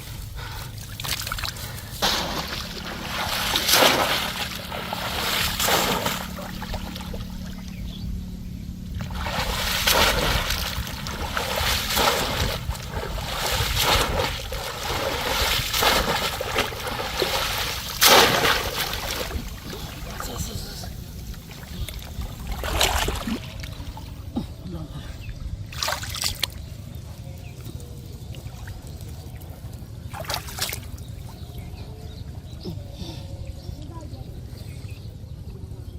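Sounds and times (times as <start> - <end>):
water splashing and sloshing: 0.0 - 24.6, 25.6 - 32.6
steady low hum: 0.0 - 35.9.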